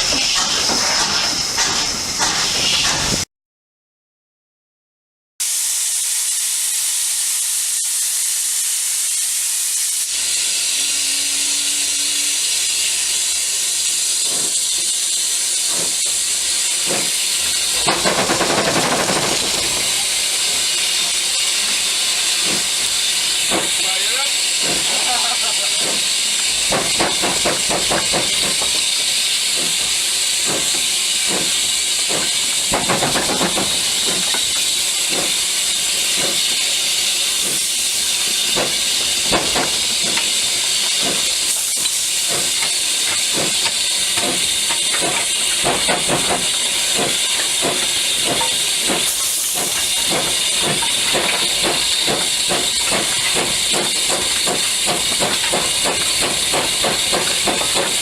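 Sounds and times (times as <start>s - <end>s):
steam locomotive hissing: 0.0s - 3.2s, 5.4s - 58.0s.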